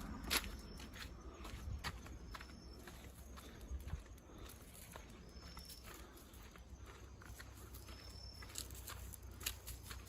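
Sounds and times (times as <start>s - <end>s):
footsteps: 0.1s - 10.0s.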